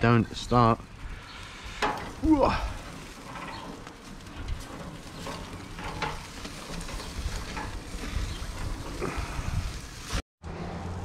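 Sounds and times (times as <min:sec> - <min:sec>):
crayfish sizzling on a grill: 0:00.2 - 0:10.2.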